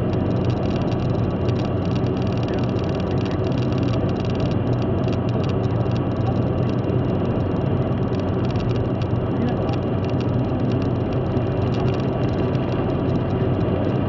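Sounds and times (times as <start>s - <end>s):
car road and engine noise: 0.0s - 14.0s
low hum: 0.0s - 14.0s.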